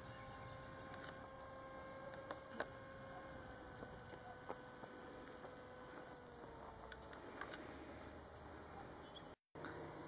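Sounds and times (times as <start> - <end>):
electric model plane motor whine: 0.0 - 10.0.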